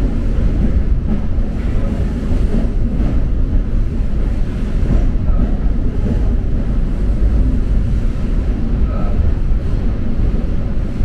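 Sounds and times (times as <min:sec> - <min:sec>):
train wheels on track rumbling: 0:00.0 - 0:11.0.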